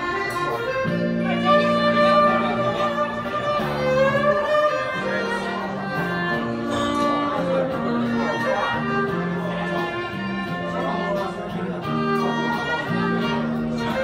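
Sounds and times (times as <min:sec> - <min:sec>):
violin playing slow melody: 0:00.0 - 0:14.0.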